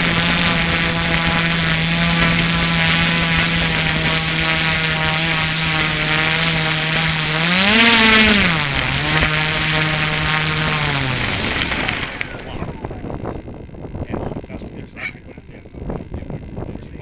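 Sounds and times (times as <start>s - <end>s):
electric motor and propeller humming: 0.0s - 17.0s.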